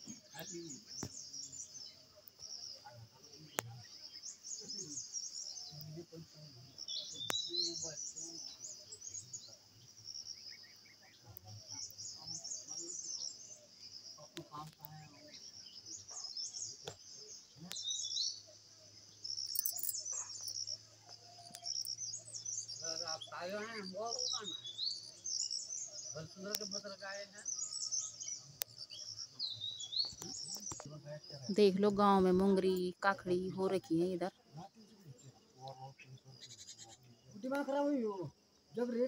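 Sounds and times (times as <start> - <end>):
insect drone: 0.0 - 39.0
small birds chirping: 0.0 - 39.0.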